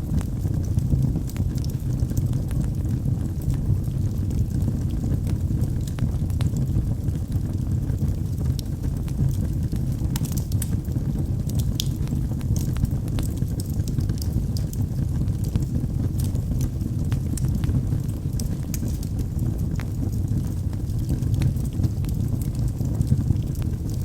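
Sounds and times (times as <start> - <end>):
burning logs crackling and popping: 0.0 - 24.0
fire flames rumbling: 0.0 - 24.0.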